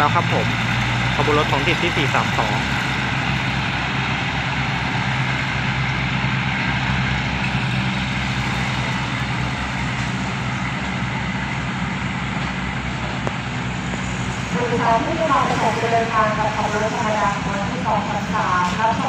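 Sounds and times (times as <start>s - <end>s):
diesel train engine humming: 0.0s - 19.0s.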